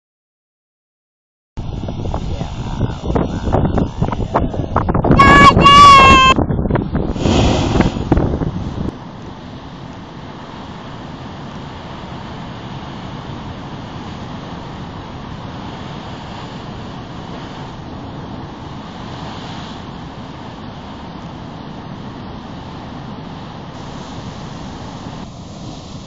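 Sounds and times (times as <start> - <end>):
ocean surf breaking over rocks: 1.6 - 6.4, 7.0 - 26.0.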